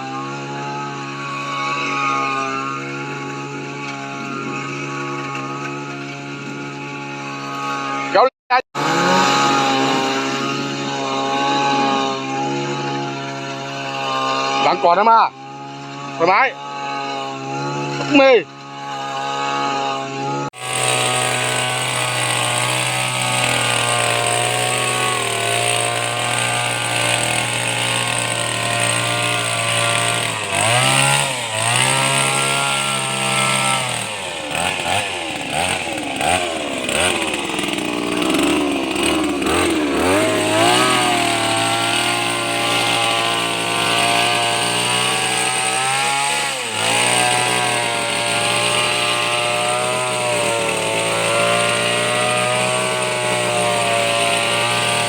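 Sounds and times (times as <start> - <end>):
hedge trimmer running: 0.0 - 55.0.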